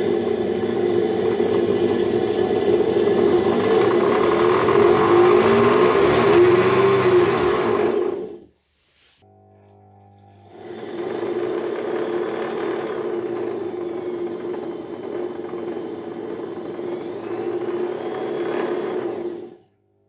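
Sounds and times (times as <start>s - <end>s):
drum sander motor whirring: 0.0s - 8.4s, 9.3s - 19.6s.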